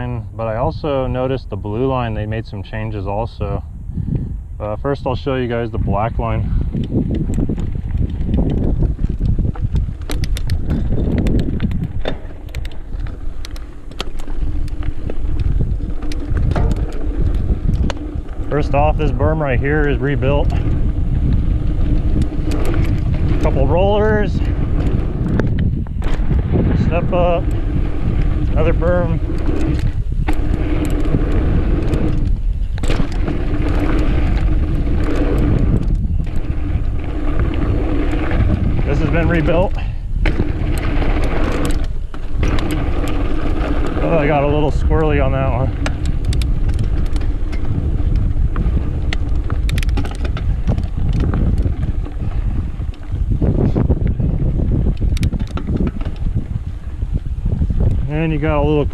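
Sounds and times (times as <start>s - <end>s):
bike tyres clicking and rattling: 0.0s - 58.9s
tires rolling on dirt: 0.0s - 58.9s
wind buffeting microphone: 0.0s - 58.9s.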